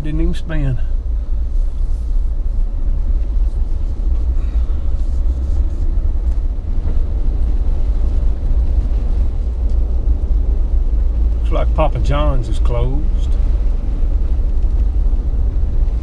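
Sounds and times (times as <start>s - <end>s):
engine and tyres rumbling: 0.0s - 16.0s.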